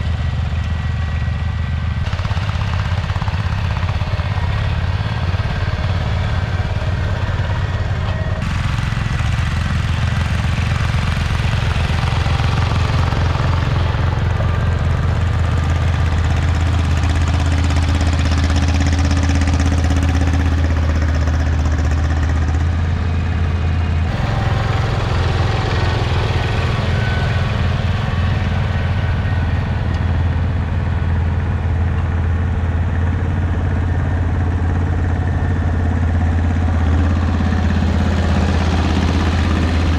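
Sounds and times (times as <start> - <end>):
garden tractor engine droning: 0.0 - 39.9.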